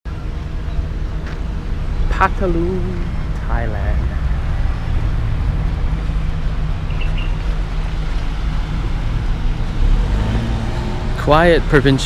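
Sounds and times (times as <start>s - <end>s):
vehicle engine running: 0.1s - 12.0s.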